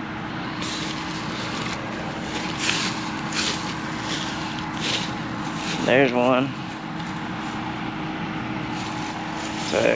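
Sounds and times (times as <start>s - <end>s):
combine harvester humming: 0.0s - 9.9s
dry rustle or crunch: 0.6s - 7.8s, 8.6s - 9.9s.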